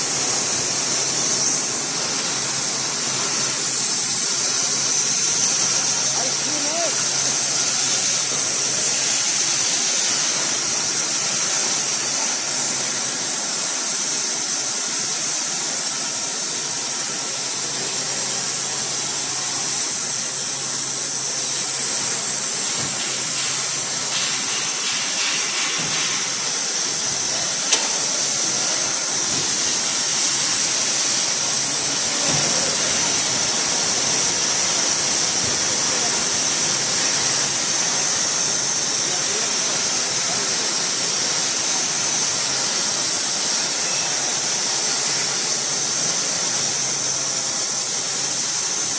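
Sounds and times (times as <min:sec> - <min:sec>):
sawmill motor high-pitched hiss: 0:00.0 - 0:48.9.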